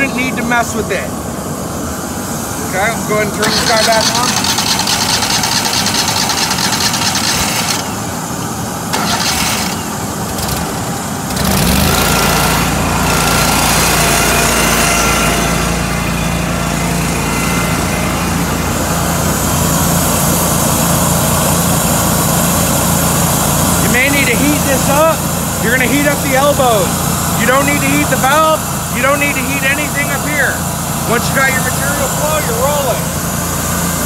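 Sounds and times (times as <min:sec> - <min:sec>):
pump humming: 0:00.0 - 0:34.0
small gasoline engine running: 0:02.8 - 0:34.0.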